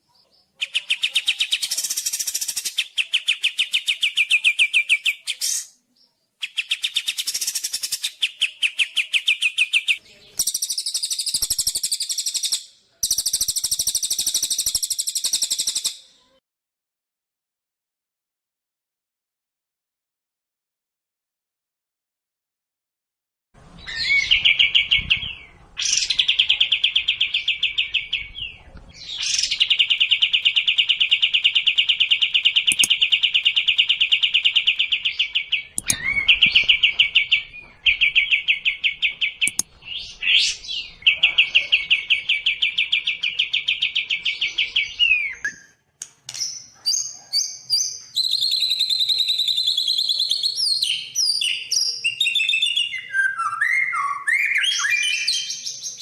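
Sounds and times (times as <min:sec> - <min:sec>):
songbird whistled song: 0:00.2 - 0:16.4, 0:23.8 - 0:56.0.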